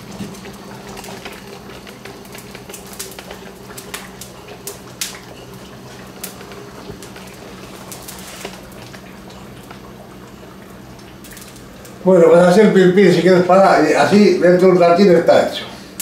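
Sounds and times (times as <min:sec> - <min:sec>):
oil crackling in frying pan: 0:00.0 - 0:14.4
steady low hum: 0:00.0 - 0:16.0.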